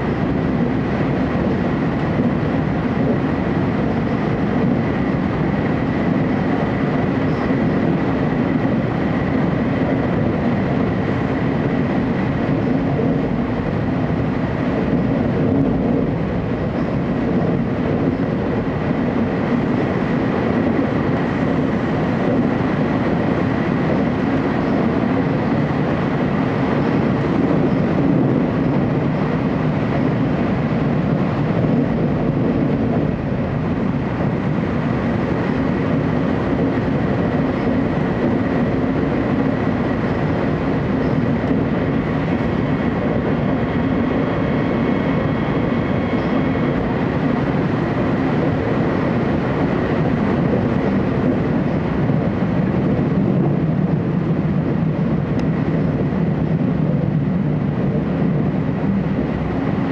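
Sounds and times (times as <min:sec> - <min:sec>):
train cabin rumble: 0:00.0 - 0:59.9.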